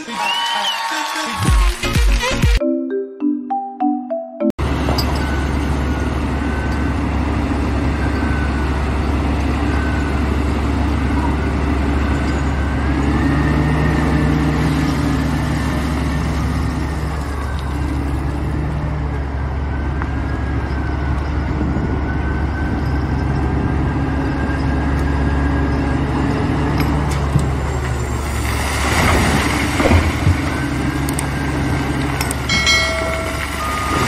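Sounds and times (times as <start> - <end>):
diesel engines droning: 4.6 - 34.0.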